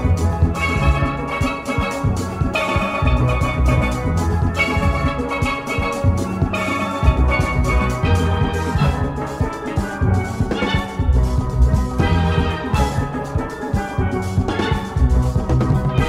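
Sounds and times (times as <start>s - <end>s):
drums and percussion beat: 0.0s - 16.0s
steelpans playing melody: 0.0s - 16.0s.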